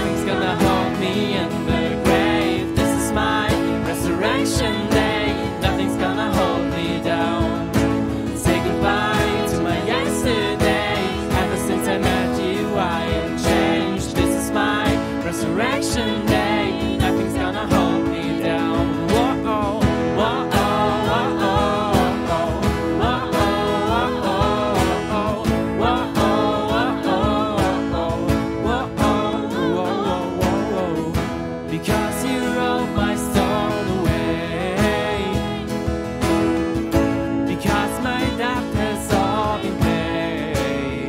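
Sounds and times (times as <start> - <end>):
strummed acoustic guitar: 0.0 - 41.0
voices singing: 0.0 - 41.0.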